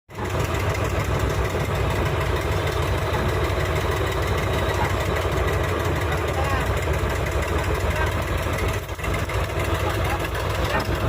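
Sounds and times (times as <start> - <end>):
diesel engine running: 0.1 - 11.0.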